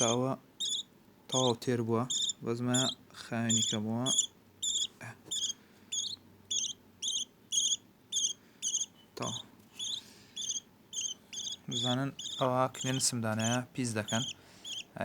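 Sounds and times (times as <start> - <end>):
chicks begging chirps: 0.0 - 14.9.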